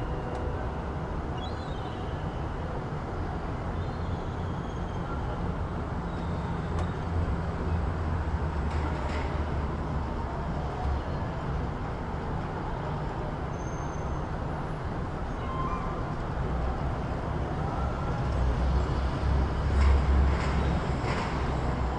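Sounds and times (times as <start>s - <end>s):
traffic rumble: 0.0s - 21.9s.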